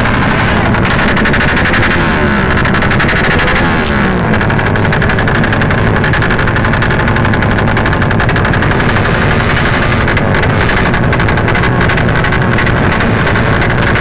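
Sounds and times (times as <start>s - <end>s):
motorcycle engine revving hard: 0.0s - 14.0s.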